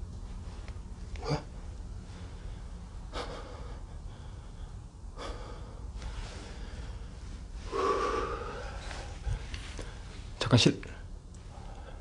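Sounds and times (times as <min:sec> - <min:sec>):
steady low rumble: 0:00.0 - 0:12.0
man breathing: 0:01.2 - 0:10.4, 0:11.0 - 0:12.0.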